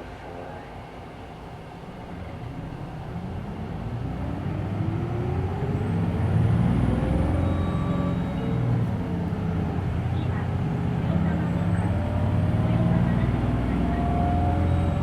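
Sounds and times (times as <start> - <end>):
bus diesel engine accelerating: 1.4 - 15.0.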